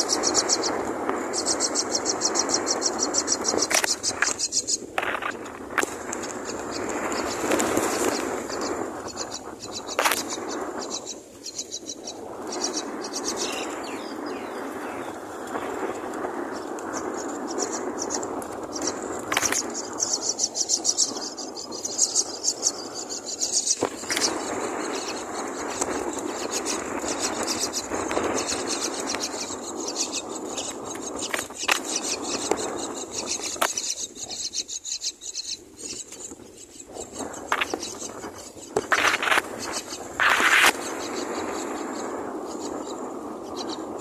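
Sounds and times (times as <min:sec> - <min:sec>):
nestlings chittering: 0:00.0 - 0:44.0.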